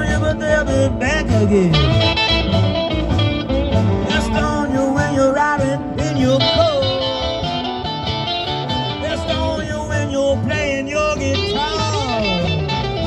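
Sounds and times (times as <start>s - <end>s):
electric guitar lead bending notes: 0.0s - 13.0s
live rock band playing: 0.0s - 13.0s.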